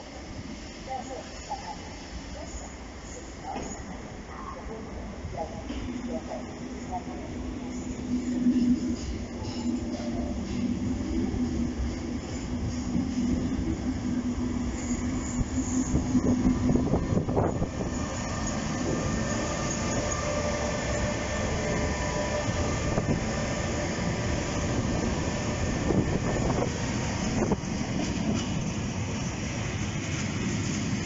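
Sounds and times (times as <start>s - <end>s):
train wheels rumbling on rails: 5.4s - 31.0s.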